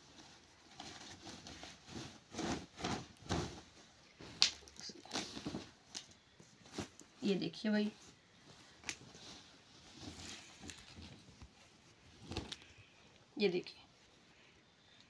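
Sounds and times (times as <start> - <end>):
cloth rustling and swishing: 0.0 - 13.0.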